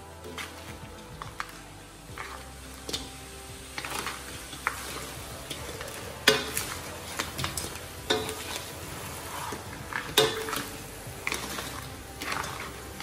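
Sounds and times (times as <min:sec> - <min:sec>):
food sizzling in wok: 0:00.0 - 0:13.0
metal spatula scraping wok: 0:00.0 - 0:13.0.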